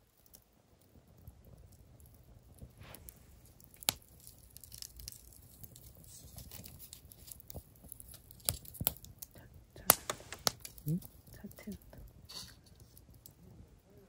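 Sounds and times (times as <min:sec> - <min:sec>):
fire pops and snaps: 0:00.0 - 0:13.8
campfire crackling: 0:00.0 - 0:14.0.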